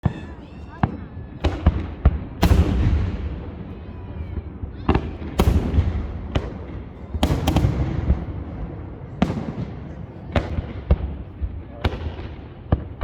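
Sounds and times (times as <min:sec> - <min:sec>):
fireworks bursting with booms: 0:00.0 - 0:13.0.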